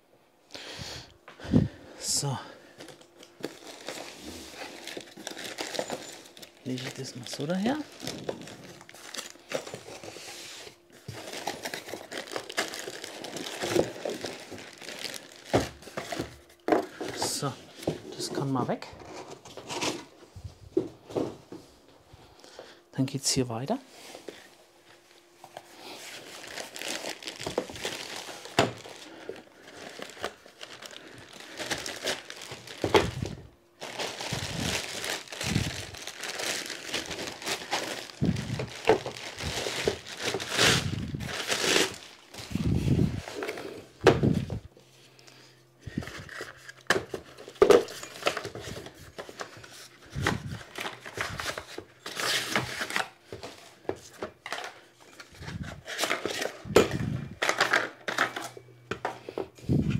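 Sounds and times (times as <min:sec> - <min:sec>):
packaging crinkling and rustling: 0:02.0 - 0:20.1, 0:24.2 - 0:44.8, 0:45.8 - 0:59.9.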